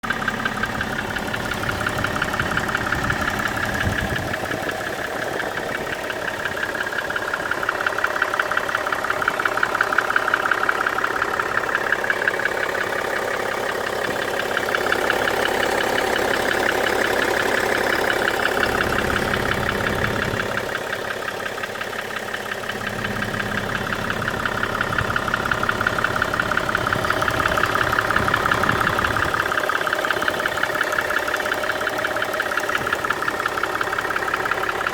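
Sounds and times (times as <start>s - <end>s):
diesel engine running: 0.0s - 34.9s
rapid engine clatter: 0.0s - 34.9s.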